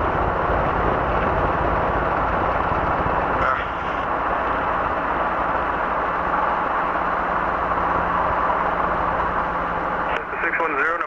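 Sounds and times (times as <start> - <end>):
constant low hum: 0.0 - 11.0
helicopter engine and rotor drone: 0.0 - 11.0.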